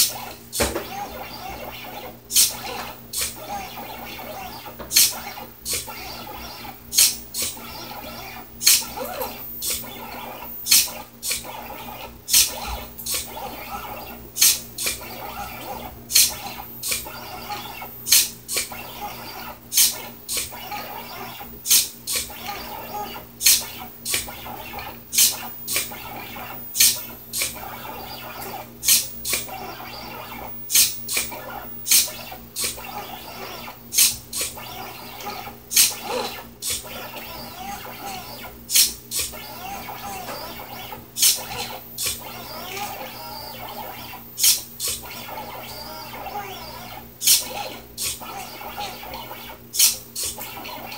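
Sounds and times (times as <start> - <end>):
servo clicking pen up and down: 0.0 - 50.9
stepper motors chirping: 0.0 - 50.9.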